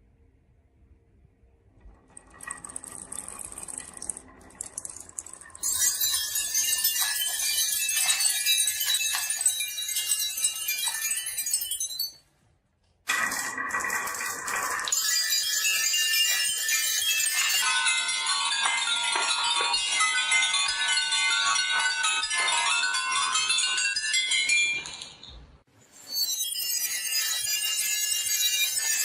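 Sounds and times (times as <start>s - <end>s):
marbles rolling and clacking: 1.8s - 12.2s, 13.1s - 29.0s.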